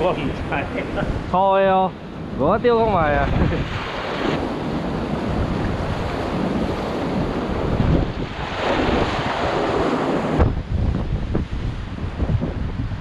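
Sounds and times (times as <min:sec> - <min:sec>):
wind on microphone: 0:00.0 - 0:13.0
surf breaking over rocks: 0:02.4 - 0:13.0.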